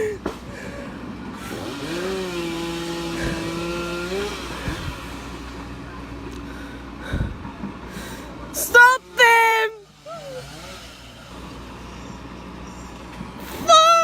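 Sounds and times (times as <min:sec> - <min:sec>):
chainsaw revving: 0:00.0 - 0:07.0, 0:07.9 - 0:12.6.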